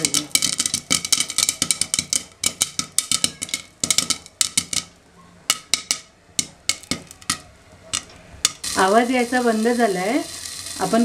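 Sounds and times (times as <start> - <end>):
popcorn popping: 0.0 - 11.0.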